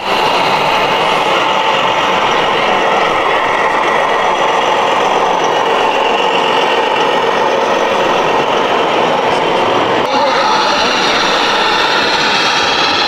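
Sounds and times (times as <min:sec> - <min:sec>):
model vehicles whirring: 0:00.0 - 0:13.0.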